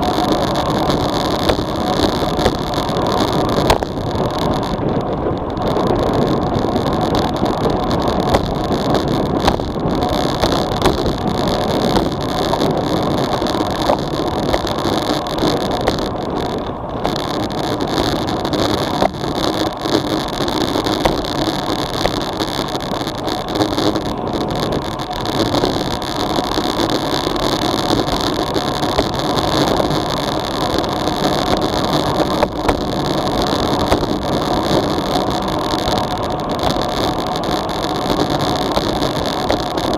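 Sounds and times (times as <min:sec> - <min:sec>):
tyres humming on asphalt: 0:00.0 - 0:39.9
wind rushing over microphone: 0:00.0 - 0:39.9.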